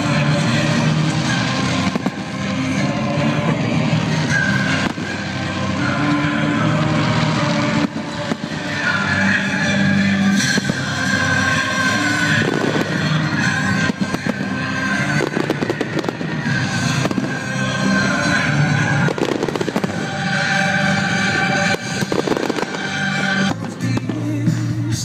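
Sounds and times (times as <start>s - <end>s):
fireworks bangs and crackles: 0.0s - 25.0s
music playing: 0.0s - 25.0s.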